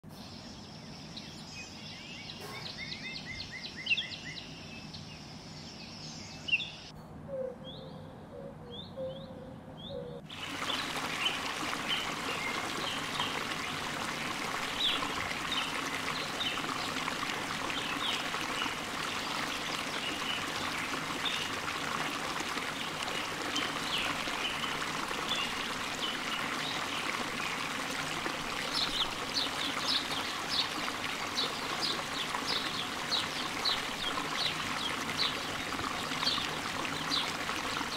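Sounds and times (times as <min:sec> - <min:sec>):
songbirds chirping: 0:00.1 - 0:37.9.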